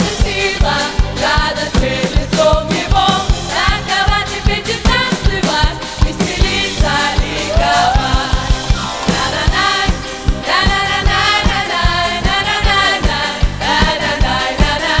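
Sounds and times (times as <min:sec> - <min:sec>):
drum kit beat: 0:00.0 - 0:15.0
singers and choir singing: 0:00.0 - 0:15.0
band playing: 0:02.4 - 0:15.0.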